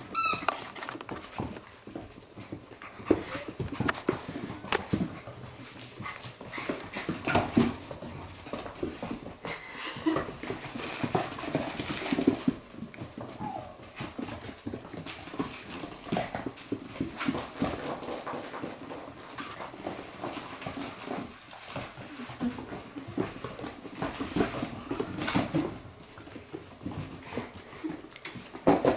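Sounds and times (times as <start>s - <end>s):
paws and toys clicking on floor: 0.0s - 28.9s.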